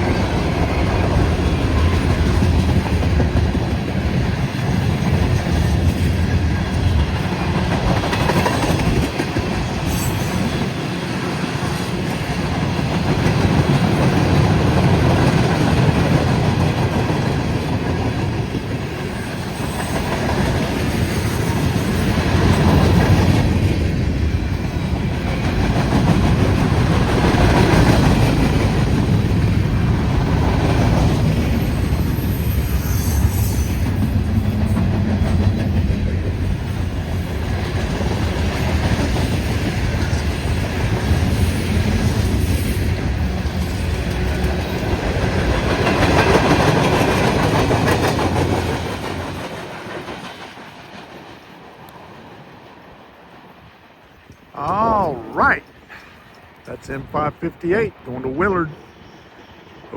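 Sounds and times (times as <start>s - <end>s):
train wheels rumbling on rails: 0.0s - 56.6s.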